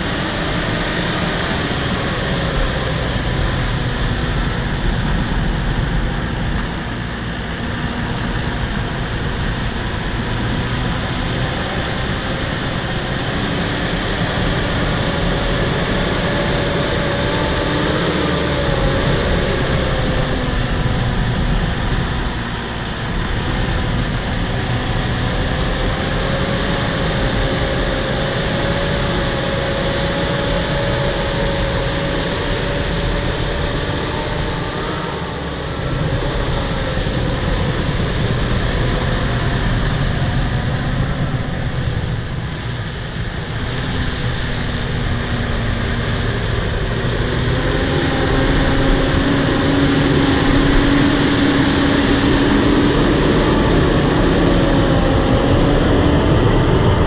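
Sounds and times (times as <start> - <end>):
bulldozer diesel engine running: 0.0 - 57.0
high whine: 0.0 - 57.0.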